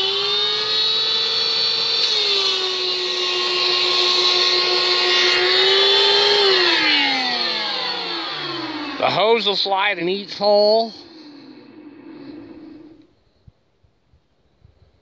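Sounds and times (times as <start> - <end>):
shop vac motor whining: 0.0 - 13.4.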